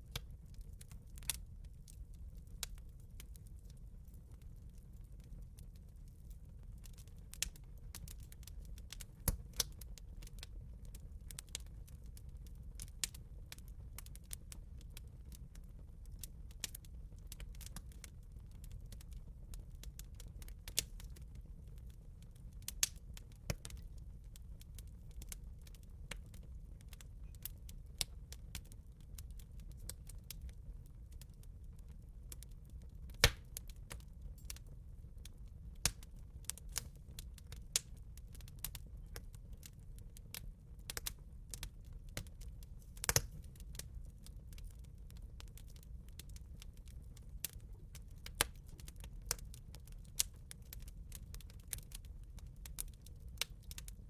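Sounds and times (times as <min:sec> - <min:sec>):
campfire crackling and popping: 0:00.1 - 0:54.0.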